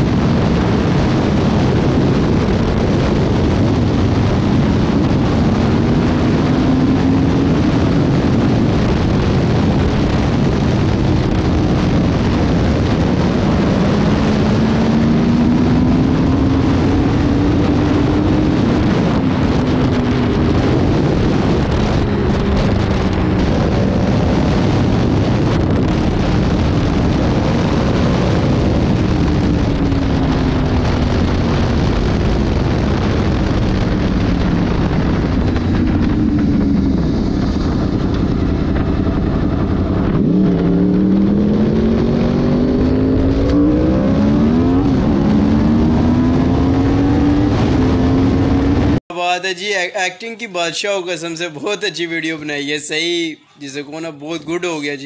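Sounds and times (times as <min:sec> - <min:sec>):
motorcycle engine revving: 0:00.0 - 0:49.0
wind rushing over microphone: 0:00.0 - 0:49.0.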